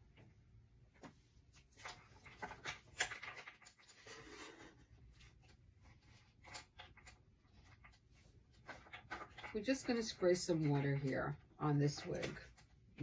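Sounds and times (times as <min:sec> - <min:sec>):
wig rustling and clicks: 0:00.9 - 0:13.0.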